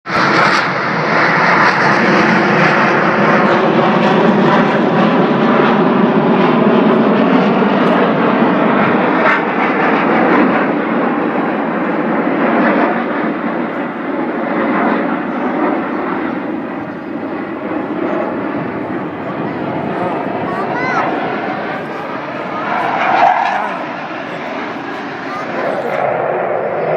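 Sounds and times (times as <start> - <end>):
aircraft engine noise: 0.1 - 26.9.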